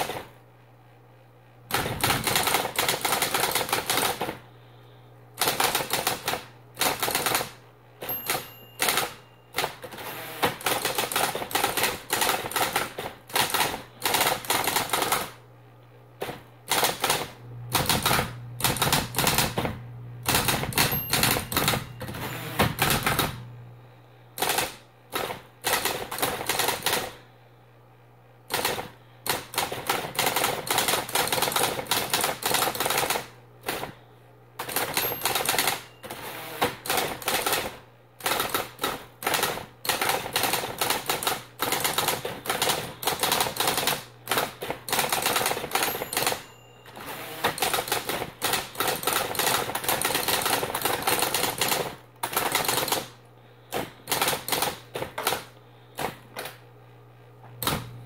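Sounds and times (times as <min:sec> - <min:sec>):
electric typewriter key strikes: 0:01.7 - 0:04.4, 0:05.4 - 0:15.4, 0:16.2 - 0:23.5, 0:24.4 - 0:27.2, 0:28.5 - 0:34.0, 0:34.6 - 0:53.1, 0:53.7 - 0:56.5
typewriter motor hum: 0:01.7 - 0:15.4, 0:16.2 - 0:23.6, 0:24.4 - 0:27.3, 0:28.5 - 0:56.6.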